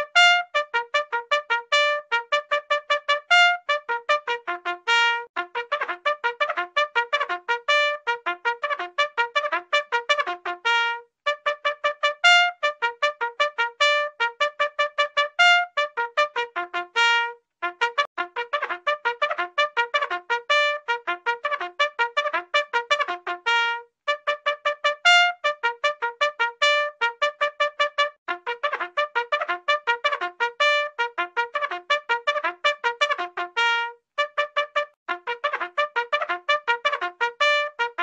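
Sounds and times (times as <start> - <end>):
bugle call: 0.0 - 38.0.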